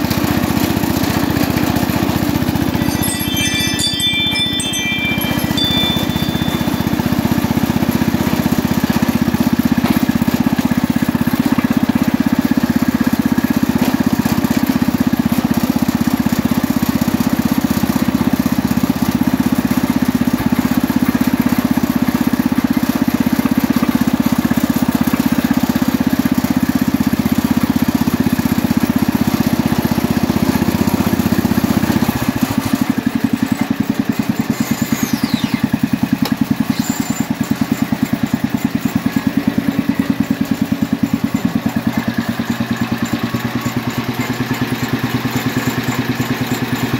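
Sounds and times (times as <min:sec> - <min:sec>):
garden tractor engine running: 0:00.0 - 0:46.9.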